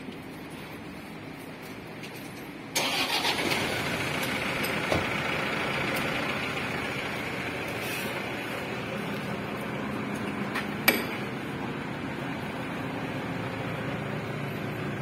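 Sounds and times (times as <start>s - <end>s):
vehicle engine starting and running: 2.6s - 15.0s.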